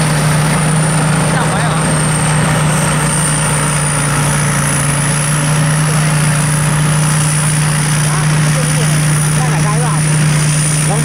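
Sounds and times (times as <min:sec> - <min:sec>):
combine harvester engine hum: 0:00.0 - 0:11.0
high machine whine: 0:00.0 - 0:11.0.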